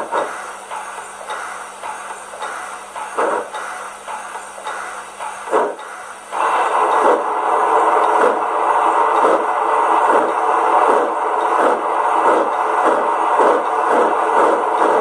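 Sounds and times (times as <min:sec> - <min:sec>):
model locomotive chuffing from speaker: 0:00.0 - 0:15.0.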